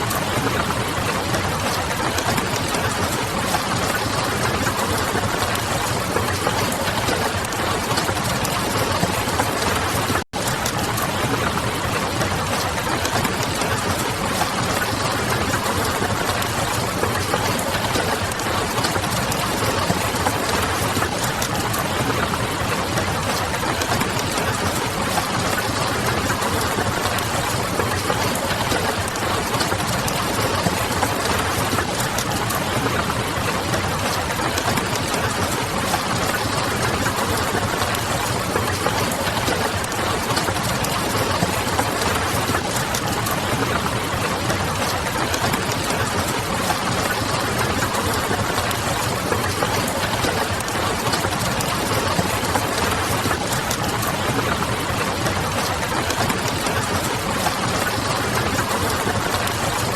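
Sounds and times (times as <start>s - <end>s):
steady dense rain: 0.0s - 59.9s.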